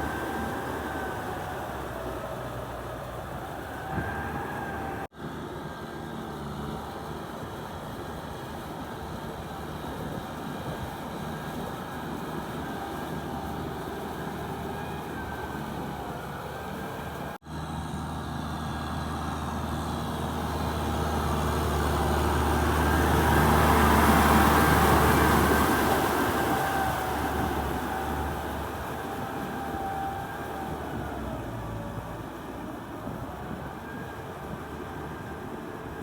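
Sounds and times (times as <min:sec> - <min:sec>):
diesel tractor engine running: 0:00.0 - 0:36.0.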